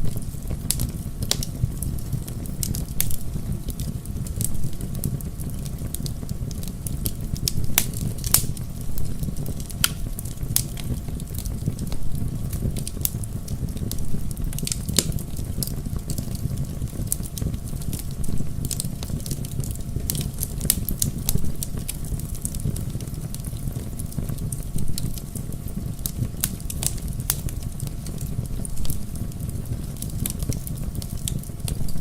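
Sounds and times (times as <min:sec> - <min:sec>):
flames rushing: 0:00.0 - 0:32.0
logs crackling and popping: 0:00.0 - 0:32.0.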